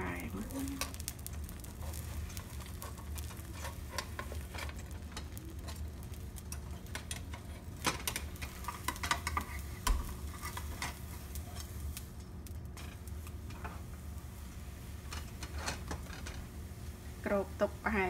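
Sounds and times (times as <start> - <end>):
batter sizzling in a frying pan: 0.0 - 18.0
steady low hum: 0.0 - 18.0.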